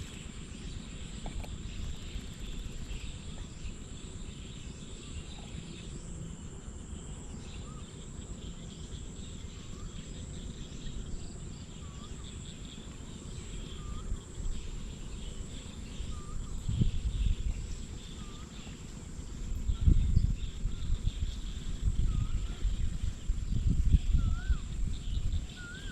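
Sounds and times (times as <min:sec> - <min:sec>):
high insect drone: 0:00.0 - 0:25.9.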